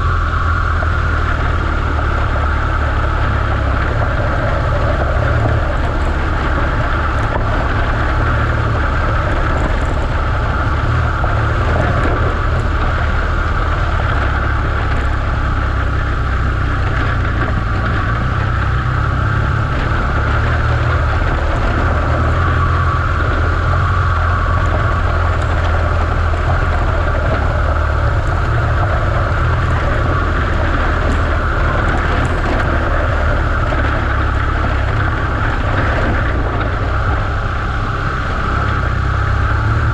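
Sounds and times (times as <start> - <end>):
motorcycle engine rumbling: 0.0 - 39.9
motorcycle riding on gravel: 0.0 - 39.9.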